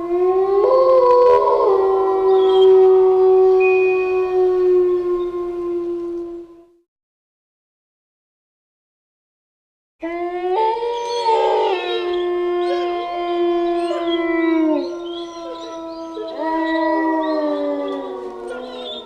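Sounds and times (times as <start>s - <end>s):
wolves howling: 0.0s - 6.8s, 10.0s - 19.0s.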